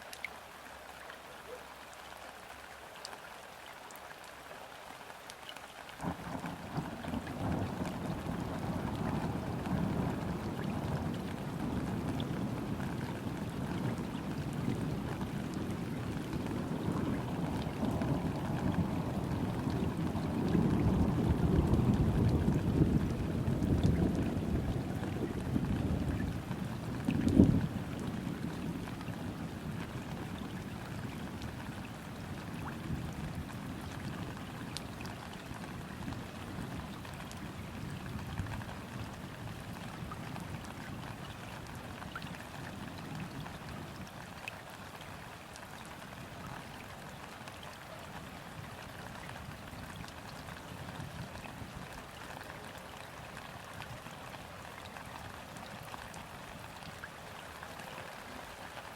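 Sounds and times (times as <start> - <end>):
rain falling on water: 0.0 - 58.9.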